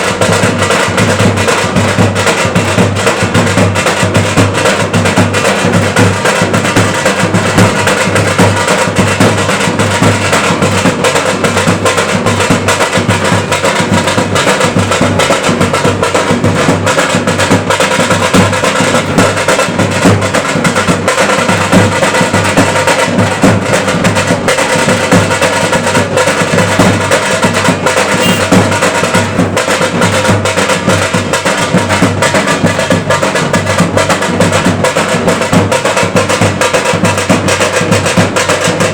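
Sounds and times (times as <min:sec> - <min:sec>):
fast dense drumming: 0:00.0 - 0:38.9
sharp clacking beat: 0:00.0 - 0:38.9.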